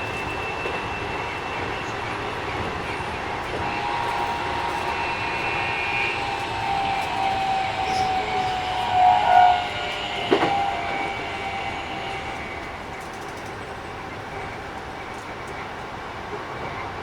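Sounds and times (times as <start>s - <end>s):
train motors whining: 0.0s - 14.5s
wheel and rail noise: 0.0s - 17.0s.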